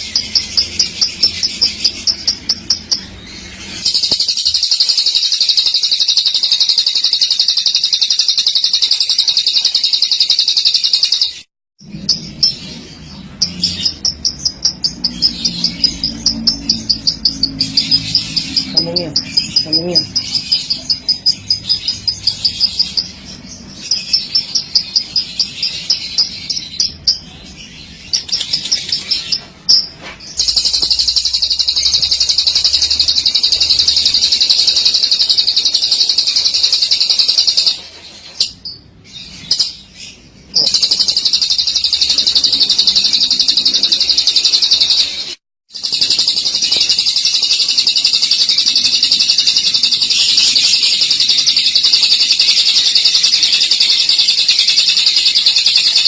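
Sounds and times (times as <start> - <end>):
lovebird chirping and trilling: 0.0 - 56.0.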